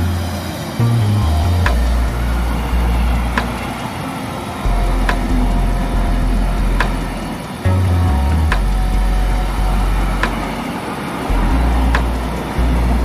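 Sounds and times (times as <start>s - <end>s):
music with deep bass: 0.0s - 13.0s.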